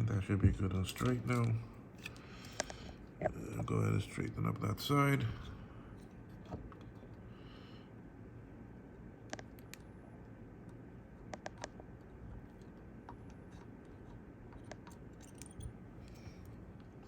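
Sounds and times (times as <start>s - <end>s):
air conditioner hum: 0.0s - 17.0s.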